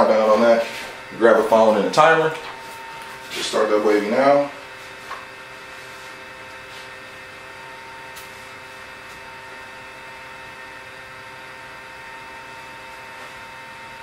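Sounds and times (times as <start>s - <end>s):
charger cooling fan humming: 0.0s - 14.0s.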